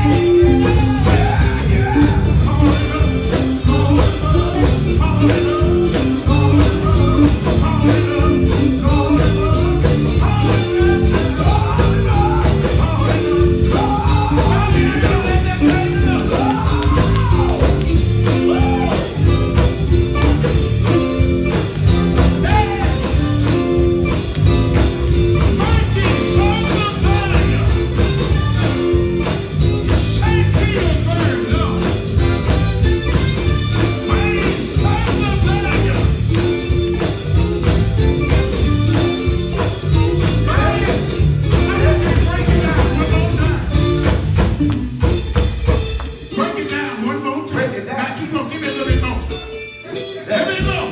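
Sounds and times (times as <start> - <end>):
gospel band music with singing: 0.0 - 50.9.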